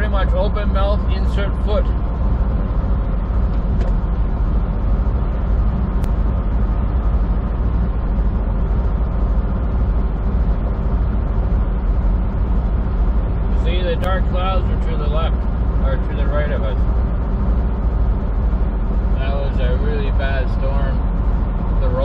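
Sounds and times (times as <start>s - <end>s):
road noise: 0.0s - 22.0s
truck engine drone: 0.0s - 22.0s.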